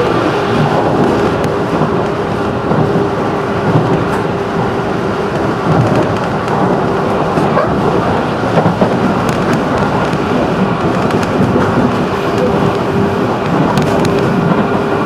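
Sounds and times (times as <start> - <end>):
rumble of train wheels on rail: 0.0 - 15.0.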